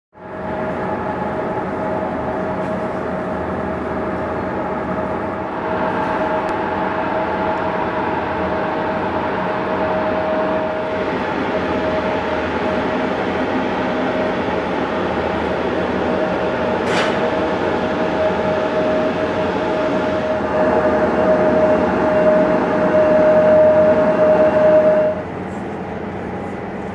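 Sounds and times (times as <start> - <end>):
aircraft turbine whine: 0.2 - 26.9.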